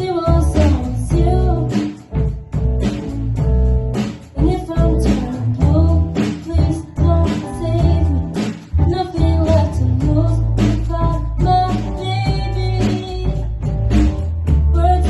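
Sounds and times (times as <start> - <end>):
woman singing: 0.0 - 2.3, 4.3 - 15.0
bass line: 0.0 - 15.0
guitar: 0.0 - 15.0.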